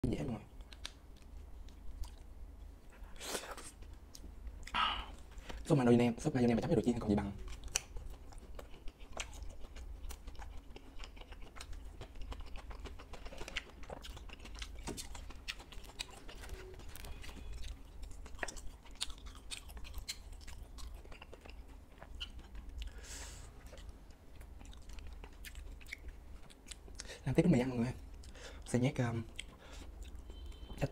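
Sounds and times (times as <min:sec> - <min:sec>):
crunchy chewing: 0:00.6 - 0:05.6, 0:07.1 - 0:27.2, 0:28.0 - 0:30.8.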